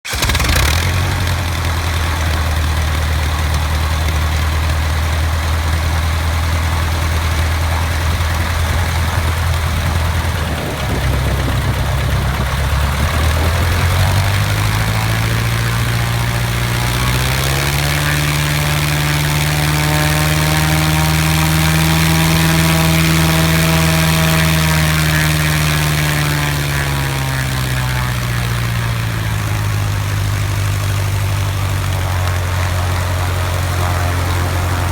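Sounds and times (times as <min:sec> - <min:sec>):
aircraft engine idling and revving: 0:00.0 - 0:34.9.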